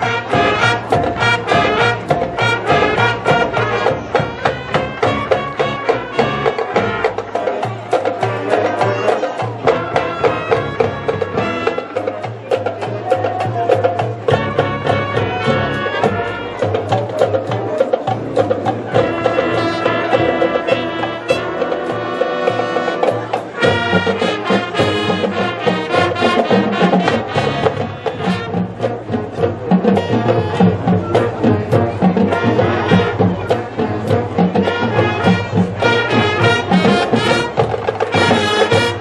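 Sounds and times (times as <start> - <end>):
brass horns: 0.0 - 39.0
steady drum beats: 0.0 - 39.0.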